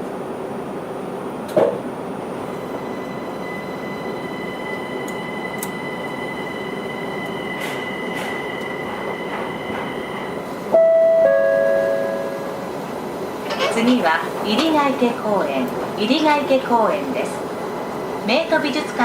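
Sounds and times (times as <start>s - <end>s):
train interior rushing noise: 0.0s - 11.0s, 12.0s - 19.0s.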